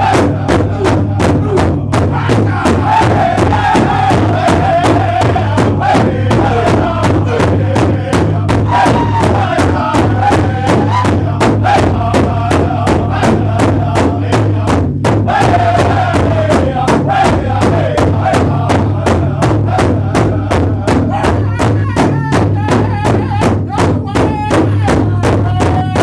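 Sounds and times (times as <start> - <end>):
band jamming: 0.0 - 26.0
sharp percussion strikes: 0.0 - 26.0.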